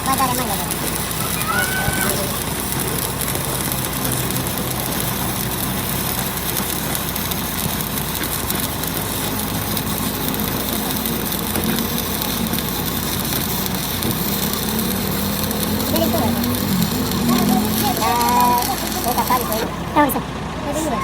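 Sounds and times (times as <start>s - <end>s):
hiss: 0.0s - 20.1s
machinery motor hum: 0.0s - 21.0s.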